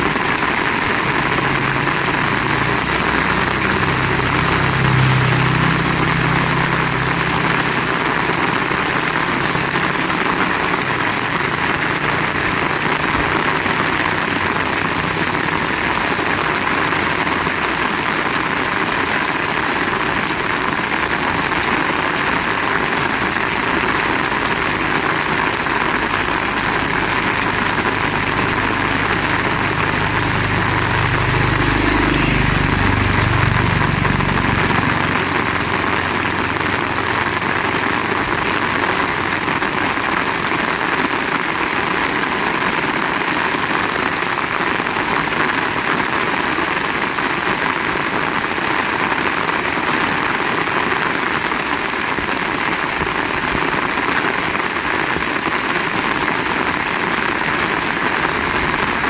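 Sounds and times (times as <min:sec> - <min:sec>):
vehicle engine hum: 0:00.0 - 0:51.1
heavy rain hissing: 0:00.0 - 0:59.0.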